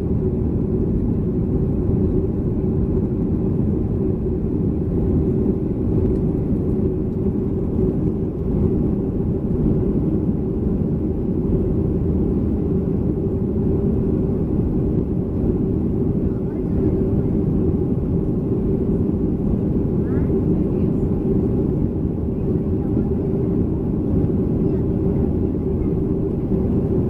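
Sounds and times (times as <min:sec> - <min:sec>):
jet engine rumble in cabin: 0:00.0 - 0:27.0.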